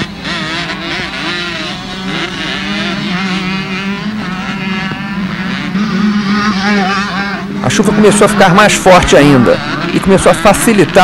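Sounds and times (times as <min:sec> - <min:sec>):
motocross bikes revving: 0:00.0 - 0:11.0
steady low hum: 0:00.0 - 0:11.0.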